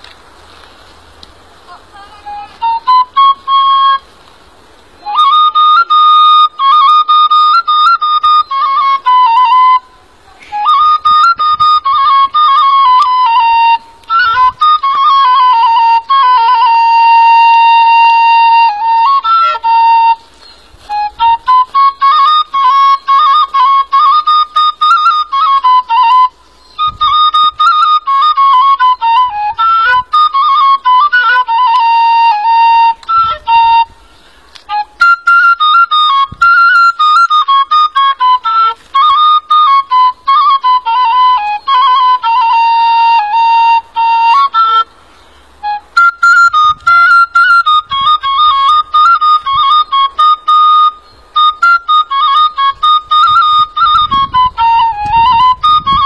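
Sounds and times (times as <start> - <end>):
flute-like melody with trills: 1.7 - 4.3, 5.0 - 56.0.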